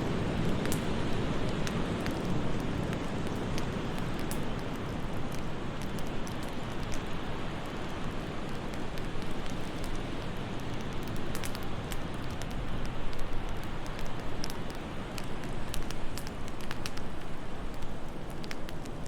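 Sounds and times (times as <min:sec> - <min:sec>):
fireplace crackling and popping: 0:00.0 - 0:19.0.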